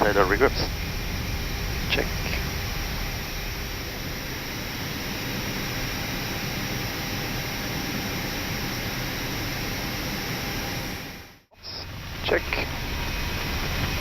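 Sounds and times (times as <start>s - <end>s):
airliner cockpit noise: 0.0s - 14.0s
jet engines in reverse thrust: 0.0s - 14.0s.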